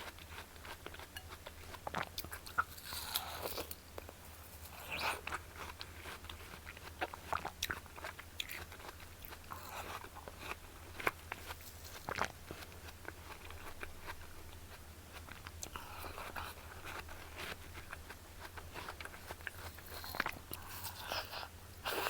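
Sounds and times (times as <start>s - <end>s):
chewing watermelon wet crunches: 0.0s - 22.0s.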